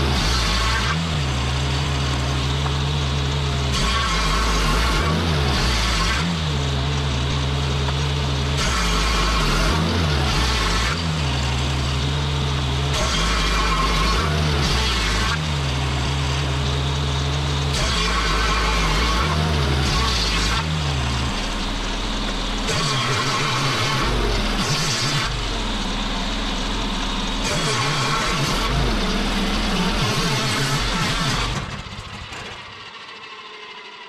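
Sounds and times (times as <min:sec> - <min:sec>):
circular saw blade whining: 0:00.0 - 0:34.0
sawmill engine humming: 0:00.0 - 0:34.0.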